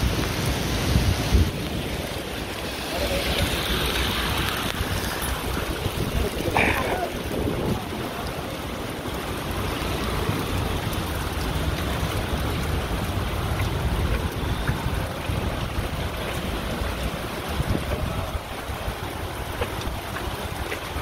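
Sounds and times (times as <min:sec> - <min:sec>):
heavy rain on pavement: 0:00.0 - 0:21.0
wind rumble on microphone: 0:00.0 - 0:21.0.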